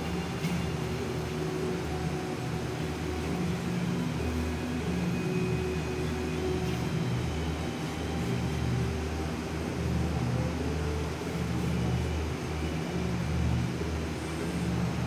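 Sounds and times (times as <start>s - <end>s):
faint steady tones: 0.0s - 15.0s
ventilation drone: 0.0s - 15.0s.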